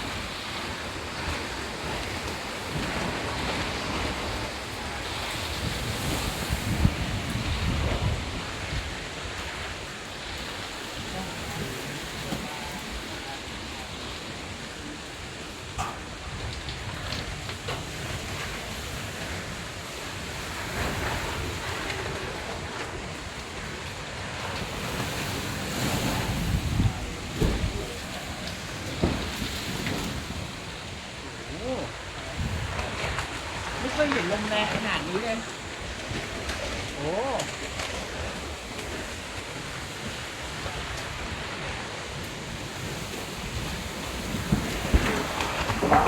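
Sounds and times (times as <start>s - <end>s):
heavy rain: 0.0s - 46.0s
wind: 0.0s - 46.0s
wind buffeting microphone: 0.0s - 46.0s.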